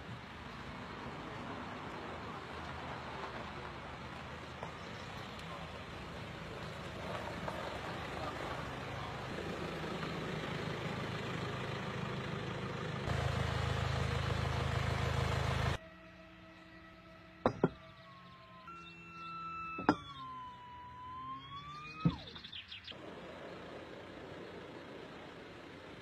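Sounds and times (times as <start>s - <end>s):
vehicle engine running: 0.0s - 15.8s, 18.2s - 26.0s
road noise: 0.0s - 26.0s.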